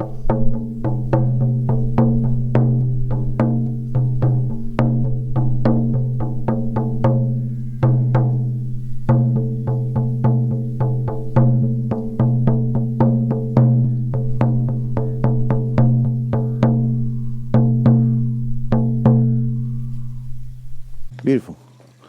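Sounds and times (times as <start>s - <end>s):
frame drum beating: 0.0s - 21.2s.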